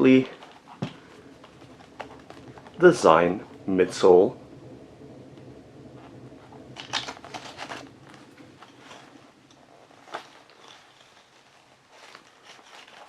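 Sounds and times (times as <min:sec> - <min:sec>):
shoe crackling and rustling: 0:00.0 - 0:04.2, 0:06.0 - 0:13.0.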